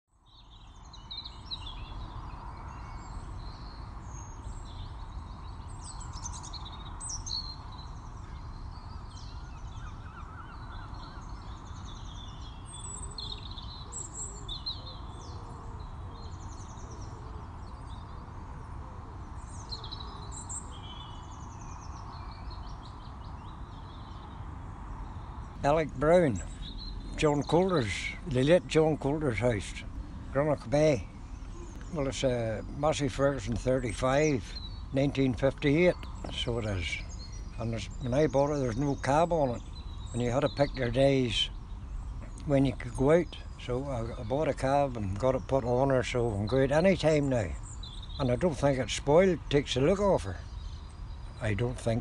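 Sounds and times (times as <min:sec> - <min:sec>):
low outdoor background noise: 0:00.1 - 0:52.0
small birds chirping: 0:00.1 - 0:52.0.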